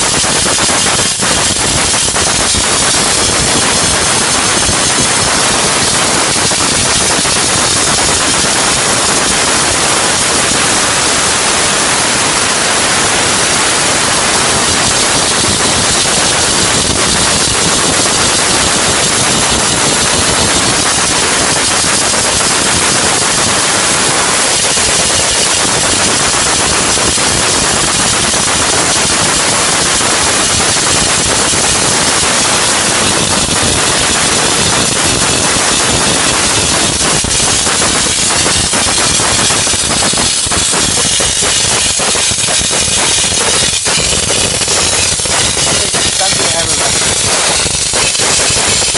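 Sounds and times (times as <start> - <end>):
loud steady steam hiss: 0.0 - 48.9
machine noise: 0.0 - 48.9.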